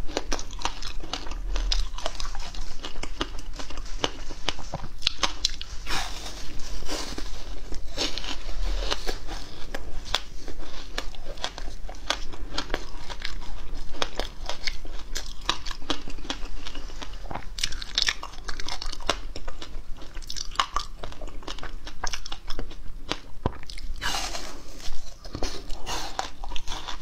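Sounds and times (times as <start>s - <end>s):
crunching ice chewing: 0.0s - 27.0s.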